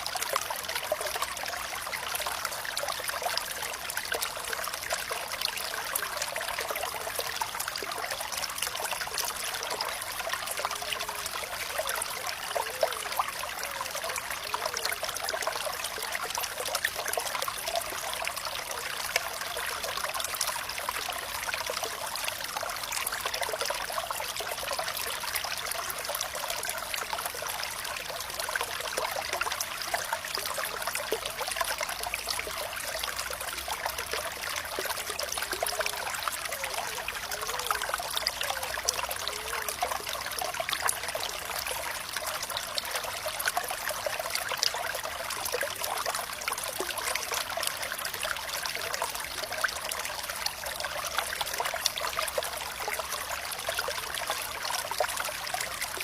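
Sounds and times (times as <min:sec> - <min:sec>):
stream of water trickling: 0:00.0 - 0:56.0.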